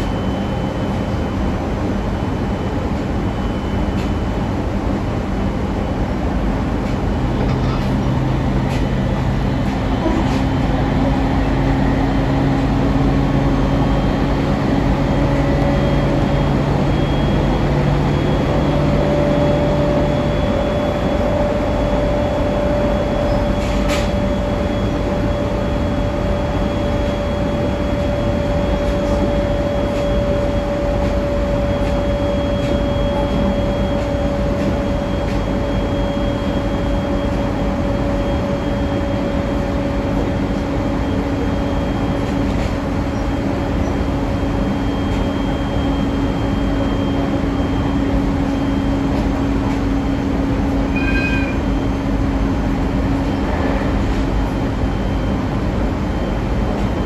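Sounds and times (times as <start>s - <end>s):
constant electric hum: 0.0s - 57.0s
train wheels rumbling on rail: 0.0s - 57.0s.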